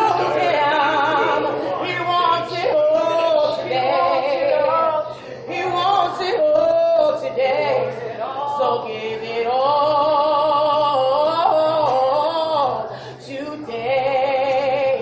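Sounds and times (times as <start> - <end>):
woman and man singing unaccompanied: 0.0 - 15.0.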